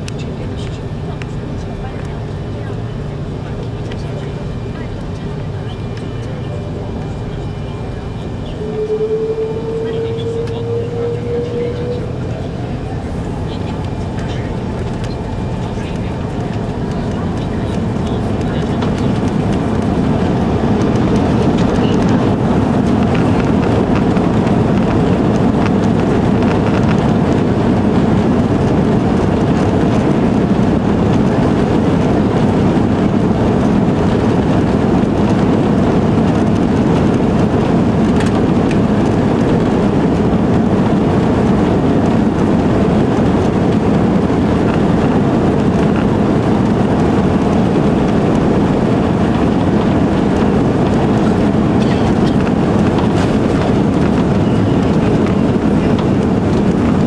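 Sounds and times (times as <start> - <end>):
airframe rolling rumble: 0.0 - 57.0
jet engines rumbling: 0.0 - 57.0.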